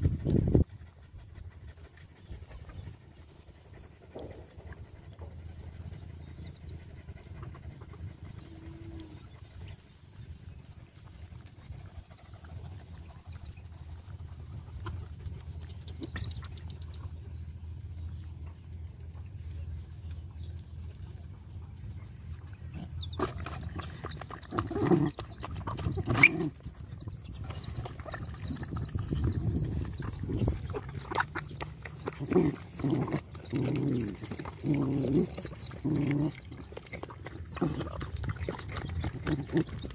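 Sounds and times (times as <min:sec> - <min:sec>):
dogs eating from bowls: 0:00.0 - 0:39.9
low steady rumble: 0:00.0 - 0:39.9
puppies nursing: 0:00.0 - 0:39.9.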